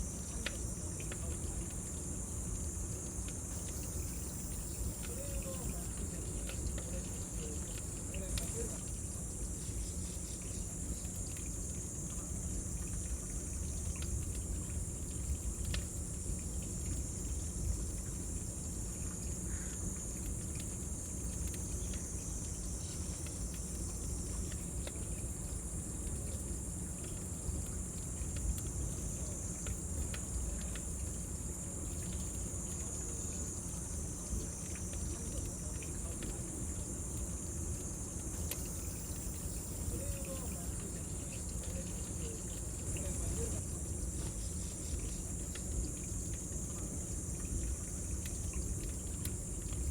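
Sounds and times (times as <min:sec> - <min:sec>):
cicadas droning: 0:00.0 - 0:49.9.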